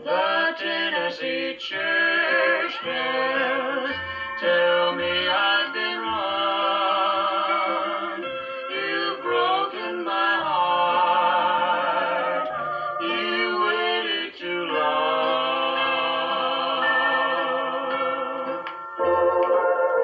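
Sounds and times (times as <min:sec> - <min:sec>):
man and woman singing duet: 0:00.0 - 0:18.7.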